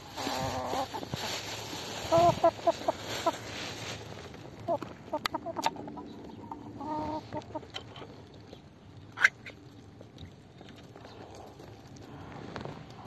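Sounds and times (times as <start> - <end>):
chickens clucking: 0.0 - 11.9.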